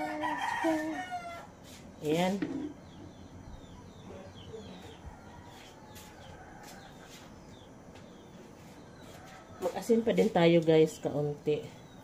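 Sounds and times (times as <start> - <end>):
birds chirping: 1.2 - 12.0.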